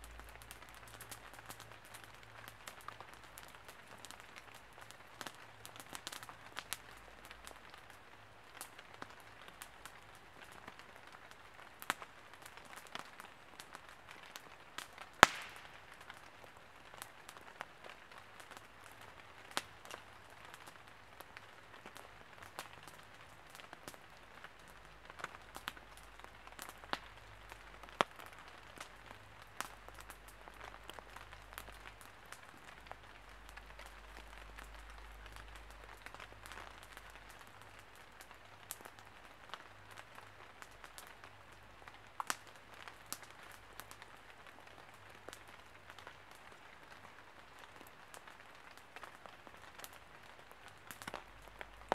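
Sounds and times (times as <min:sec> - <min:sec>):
fire pops and snaps: 0:00.0 - 0:10.5, 0:11.2 - 0:46.4, 0:47.6 - 0:51.9
campfire crackling: 0:00.0 - 0:51.9.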